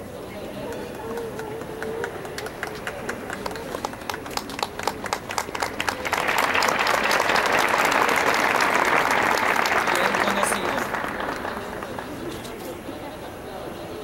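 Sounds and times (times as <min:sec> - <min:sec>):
audience applause: 0:00.9 - 0:12.6.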